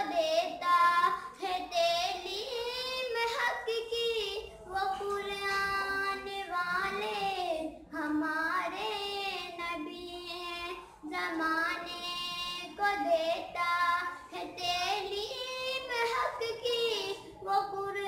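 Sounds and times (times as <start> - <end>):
girl singing: 0.0 - 18.0.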